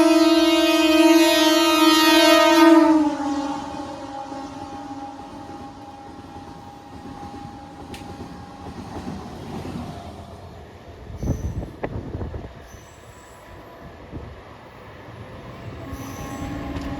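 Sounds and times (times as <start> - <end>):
train wheels rumbling on rails: 2.9 - 16.9.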